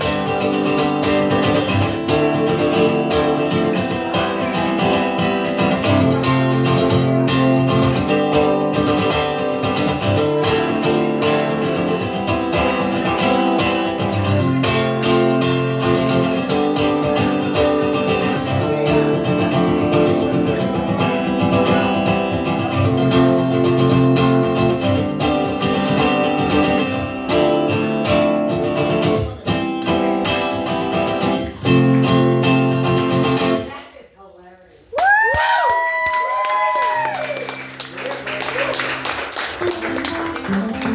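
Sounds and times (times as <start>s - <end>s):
strummed acoustic guitar: 0.0s - 33.7s, 37.7s - 40.9s.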